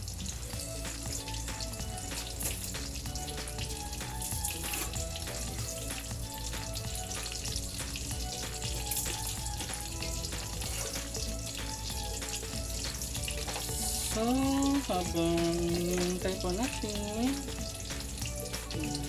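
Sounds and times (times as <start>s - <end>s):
faint music: 0.0s - 19.0s
patties frying and sizzling: 0.0s - 19.0s.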